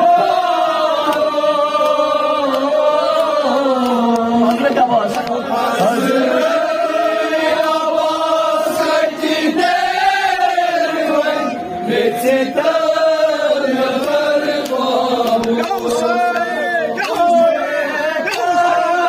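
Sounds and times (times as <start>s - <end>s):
men chanting a lament: 0.0s - 19.0s.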